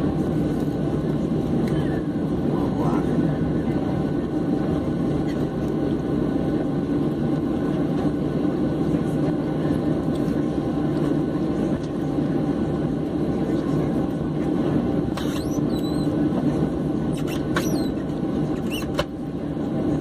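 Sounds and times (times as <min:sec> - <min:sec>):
jet engine cabin noise: 0:00.0 - 0:20.0.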